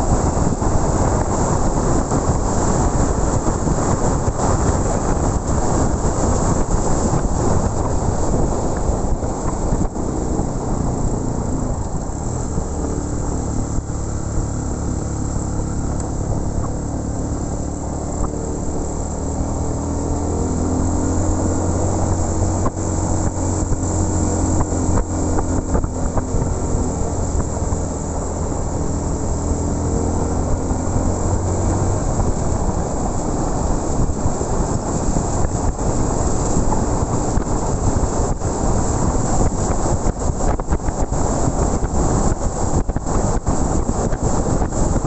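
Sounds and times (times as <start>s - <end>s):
motorcycle engine running: 0.0s - 45.0s
wind rush on microphone: 0.0s - 45.0s.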